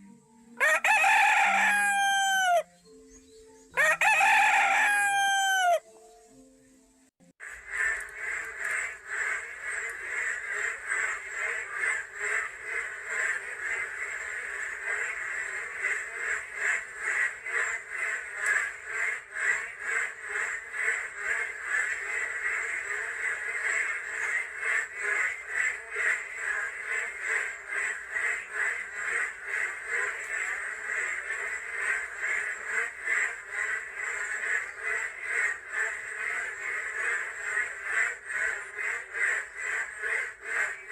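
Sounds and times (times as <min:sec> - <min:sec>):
frogs calling in chorus: 0:07.4 - 0:40.9.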